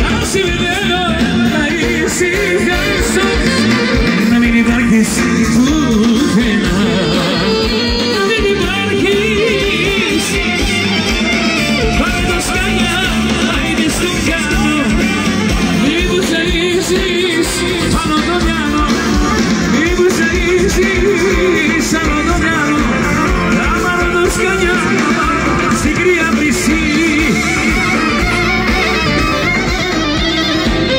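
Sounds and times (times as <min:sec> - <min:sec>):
folk dance music over loudspeakers: 0:00.0 - 0:30.9
person singing: 0:00.0 - 0:30.9.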